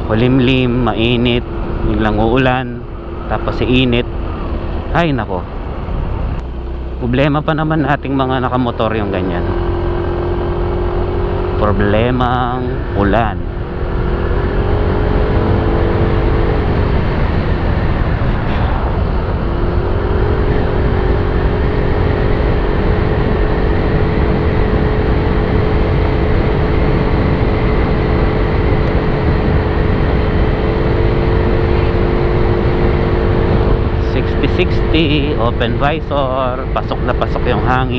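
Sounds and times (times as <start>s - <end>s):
motorcycle engine hum: 0.0s - 37.9s.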